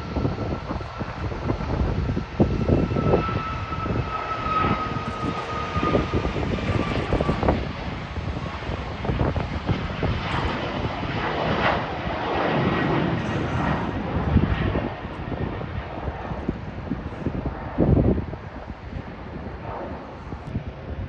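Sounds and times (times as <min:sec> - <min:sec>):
jet engine rumble: 0:00.0 - 0:21.0
jet engine whine: 0:00.0 - 0:21.0.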